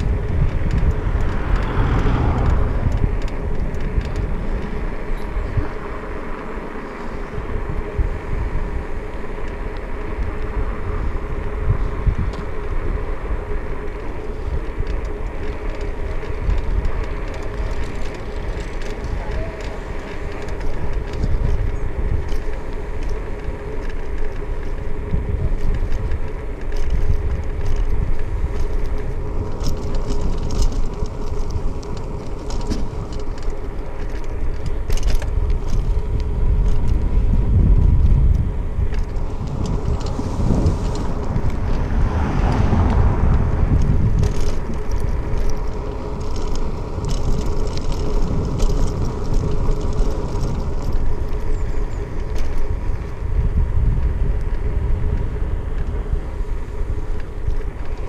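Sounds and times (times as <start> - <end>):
bicycle tyre and road noise: 0.0 - 58.0
wind buffeting microphone: 0.0 - 58.0.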